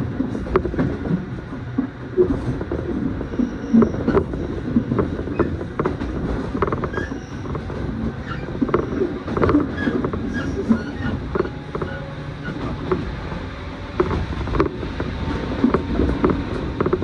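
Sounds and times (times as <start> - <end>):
train car creaking and knocking: 0.0 - 17.0
train wheels rumbling on rails: 0.0 - 17.0.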